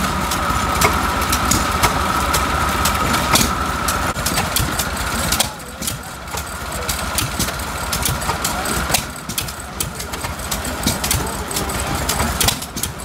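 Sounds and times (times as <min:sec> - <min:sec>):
cutting wheel whine: 0:00.0 - 0:13.0
gas engine beats: 0:00.0 - 0:13.0.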